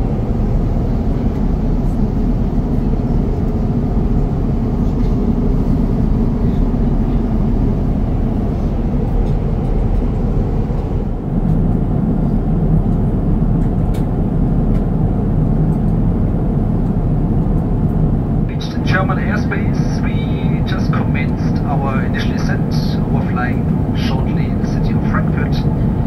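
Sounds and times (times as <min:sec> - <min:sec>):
aircraft cabin engine rumble: 0:00.0 - 0:26.0.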